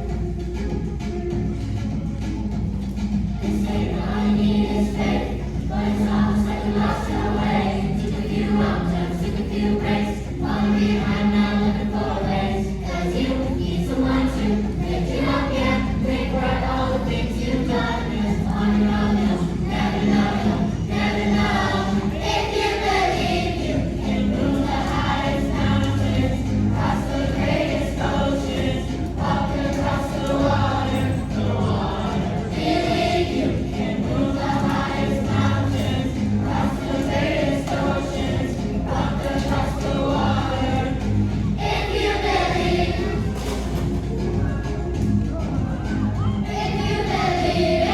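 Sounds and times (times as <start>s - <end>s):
choir singing: 3.0s - 47.9s.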